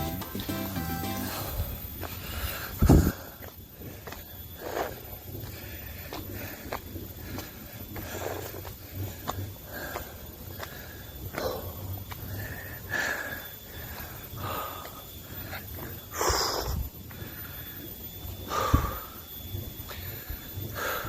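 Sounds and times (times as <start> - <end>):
person breathing heavily: 1.2 - 19.3, 19.9 - 21.0.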